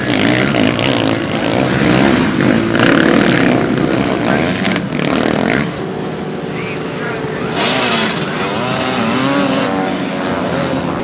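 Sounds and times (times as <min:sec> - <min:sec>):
motorcycles racing past: 0:00.0 - 0:11.0.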